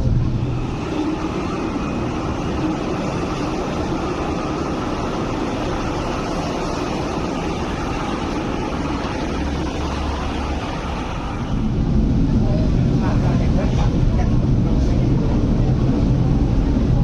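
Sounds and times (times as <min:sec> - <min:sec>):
road traffic rumble: 0:00.0 - 0:17.0
tramcar rolling over bridge: 0:00.0 - 0:17.0.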